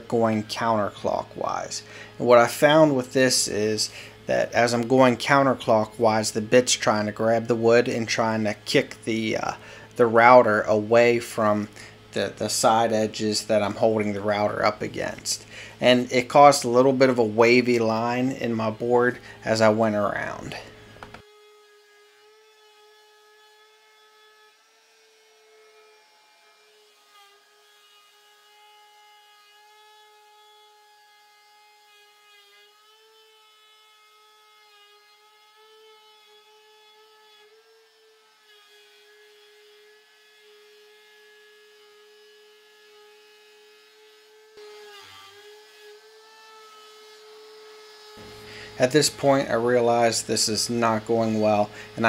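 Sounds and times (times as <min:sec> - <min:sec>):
router whining: 0:00.0 - 0:52.0.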